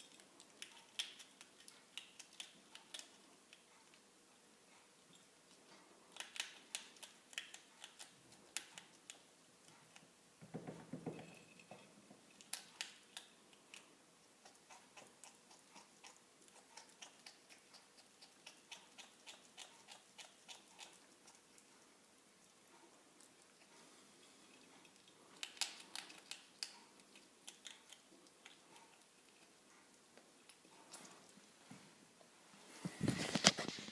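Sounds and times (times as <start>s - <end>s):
ferret crunching food: 0.0s - 4.1s, 4.9s - 10.2s, 12.2s - 31.6s.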